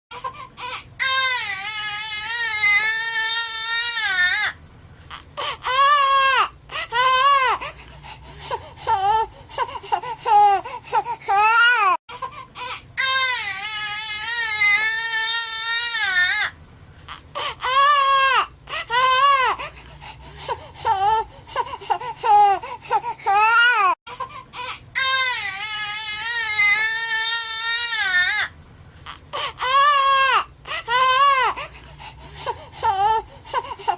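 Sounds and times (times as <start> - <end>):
baby crying: 0.1 - 7.7, 8.8 - 16.5, 17.4 - 19.7, 20.8 - 28.5, 29.1 - 31.7, 32.4 - 33.9.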